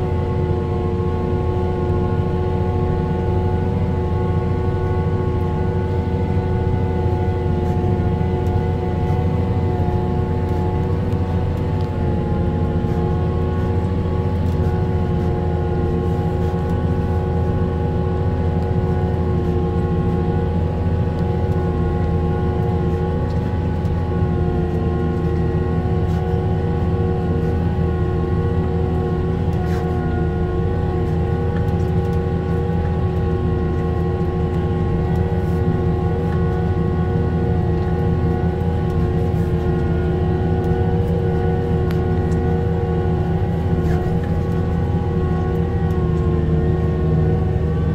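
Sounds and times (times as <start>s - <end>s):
engine whine: 0.0s - 47.9s
tractor diesel engine drone: 0.0s - 47.9s.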